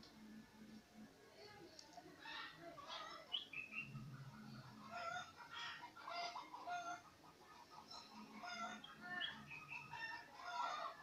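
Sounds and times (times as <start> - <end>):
chickens clucking faintly: 0.0 - 11.0.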